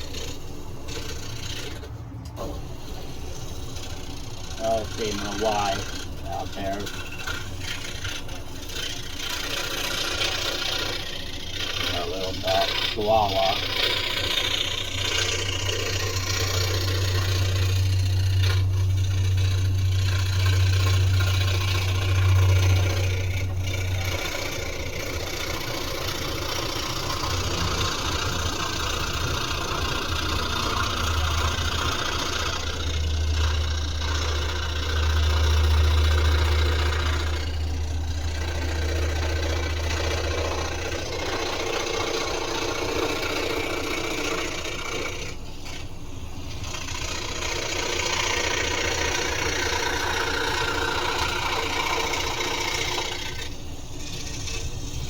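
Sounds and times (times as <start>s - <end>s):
electric sander on wood: 0.0s - 55.0s.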